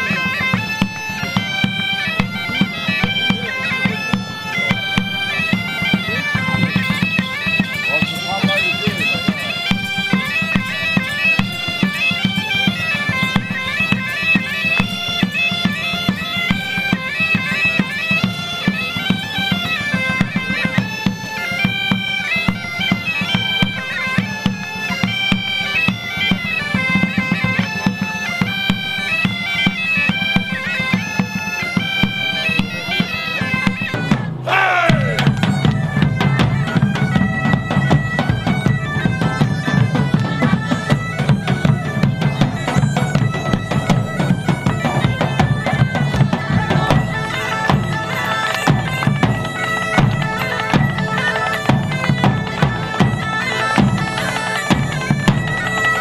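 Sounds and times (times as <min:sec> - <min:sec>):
drum beats: 0:00.0 - 0:28.0, 0:28.7 - 0:56.0
bagpipes playing: 0:00.0 - 0:56.0.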